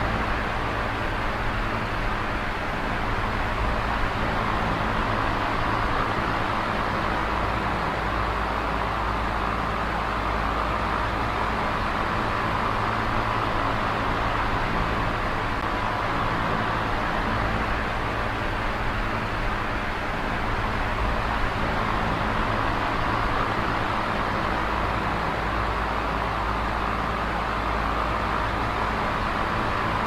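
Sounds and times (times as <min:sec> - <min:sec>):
electric fan running: 0:00.0 - 0:30.0.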